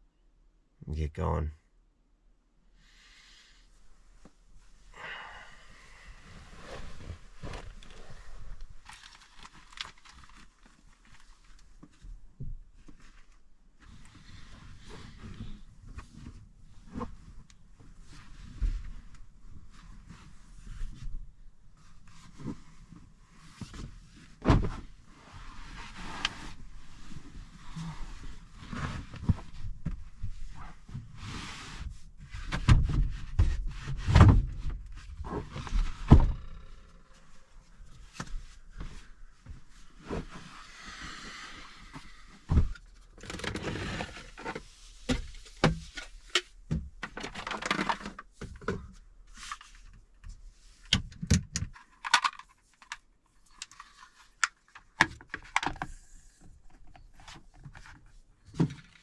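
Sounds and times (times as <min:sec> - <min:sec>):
objects being handled and moved: 0:06.2 - 0:59.0.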